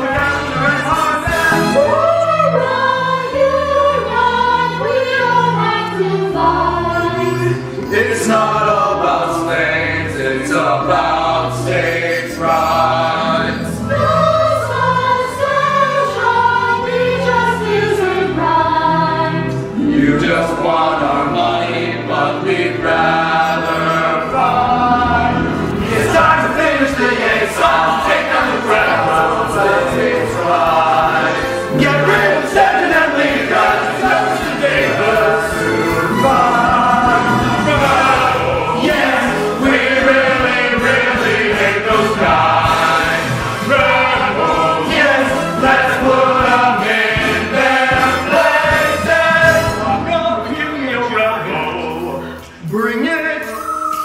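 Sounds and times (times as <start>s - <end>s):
group singing in chorus: 0.0s - 50.1s
musical accompaniment with bass: 0.0s - 54.0s.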